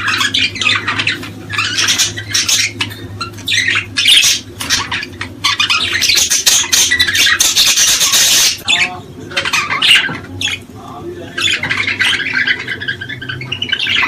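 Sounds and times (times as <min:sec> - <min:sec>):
small birds calling: 0:00.0 - 0:14.0
steady low hum: 0:00.0 - 0:14.0.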